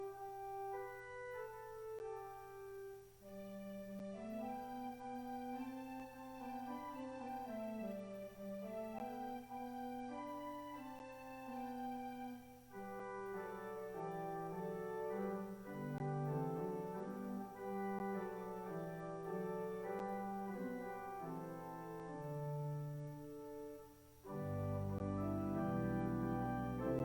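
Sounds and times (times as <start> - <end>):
organ playing sustained chords: 0.0 - 27.0.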